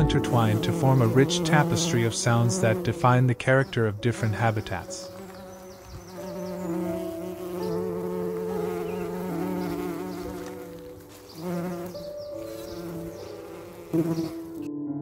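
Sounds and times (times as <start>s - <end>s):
honeybees buzzing: 0.0s - 14.7s.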